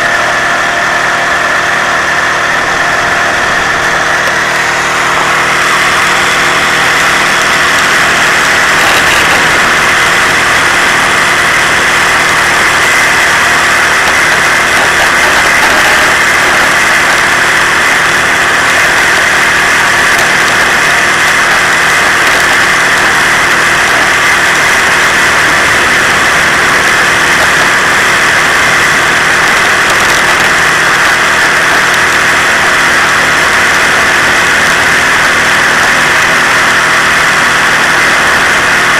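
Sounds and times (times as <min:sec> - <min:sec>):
moped engine running: 0:00.0 - 0:38.9.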